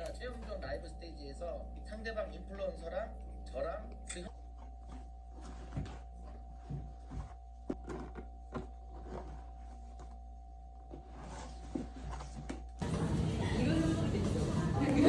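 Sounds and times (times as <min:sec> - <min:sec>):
faint steady whine: 0:00.0 - 0:15.0
low electrical hum: 0:00.0 - 0:15.0.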